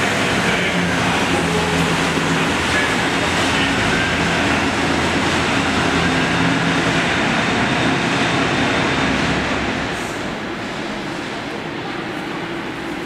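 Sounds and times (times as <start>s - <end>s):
bus and truck engines: 0.0s - 13.0s.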